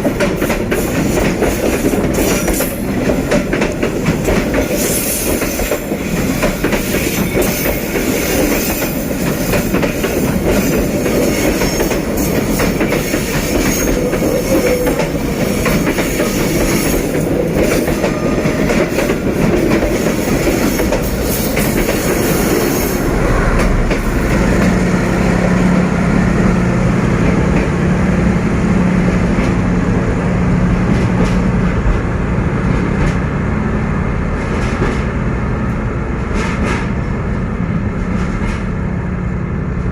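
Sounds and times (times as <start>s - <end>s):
locomotive engine hum: 0.0s - 39.9s
wheels clattering and squealing on rails: 0.0s - 39.9s.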